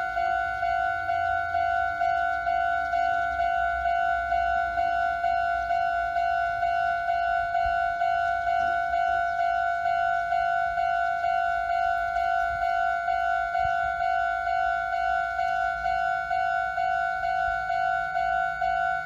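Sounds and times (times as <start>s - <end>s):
level crossing electronic bell: 0.0s - 19.0s.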